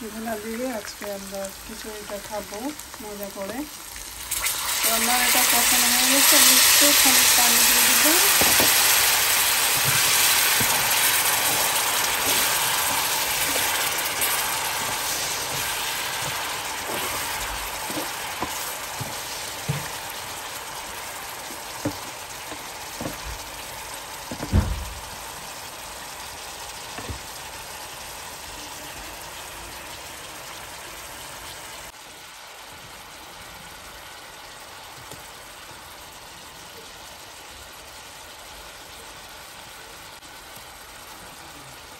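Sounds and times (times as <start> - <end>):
sauce sizzling in a frying pan: 0.0 - 41.9.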